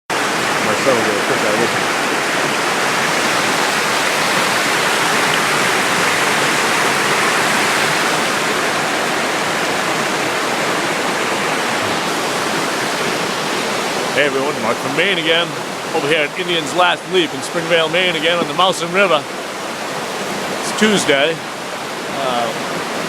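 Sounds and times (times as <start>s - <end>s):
river rushing over falls: 0.1s - 23.0s.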